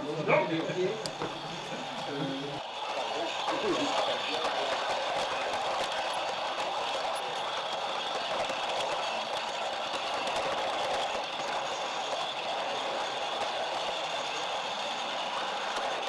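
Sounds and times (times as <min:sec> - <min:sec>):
model train wheels rattling: 0:01.0 - 0:16.0.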